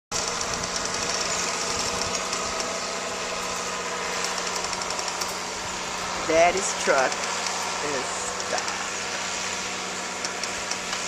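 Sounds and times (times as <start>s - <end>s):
truck engine running: 0.1s - 11.0s.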